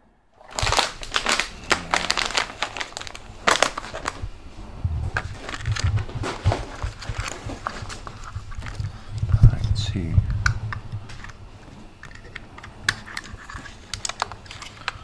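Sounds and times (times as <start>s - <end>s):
plastic parts clicking and crackling: 0.4s - 4.3s, 5.2s - 9.4s, 10.4s - 15.0s.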